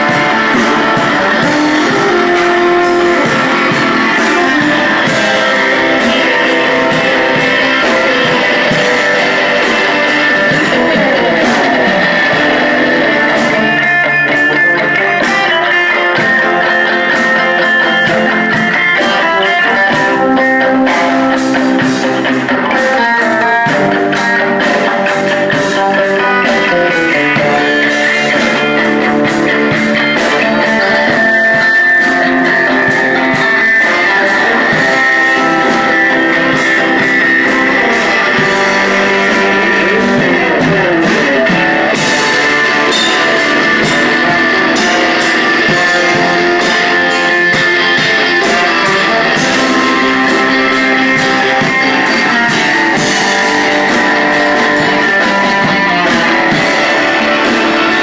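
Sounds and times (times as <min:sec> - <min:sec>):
strummed guitar music: 0:00.0 - 0:58.0.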